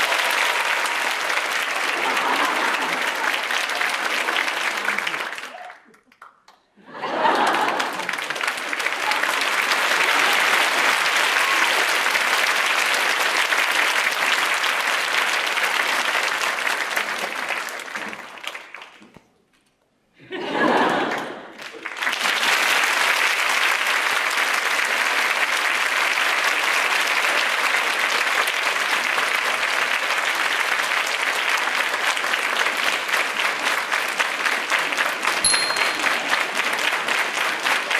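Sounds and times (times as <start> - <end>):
audience applauding: 0.0 - 19.2, 20.5 - 37.9.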